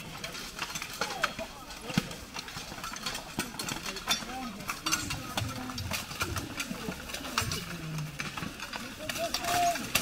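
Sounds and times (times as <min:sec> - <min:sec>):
wooden shafts and armour clattering: 0:00.0 - 0:10.0.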